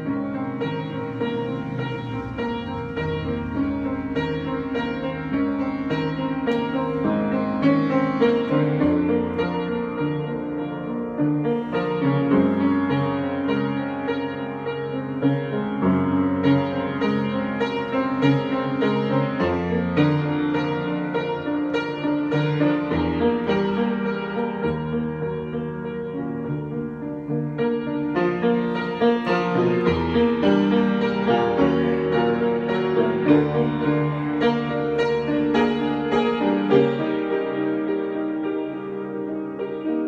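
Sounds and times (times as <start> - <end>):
solo piano music: 0.0 - 40.0.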